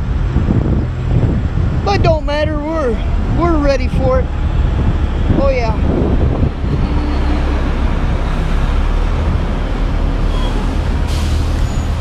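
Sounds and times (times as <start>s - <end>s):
trucks idling: 0.0s - 12.0s
wind on microphone: 0.0s - 12.0s.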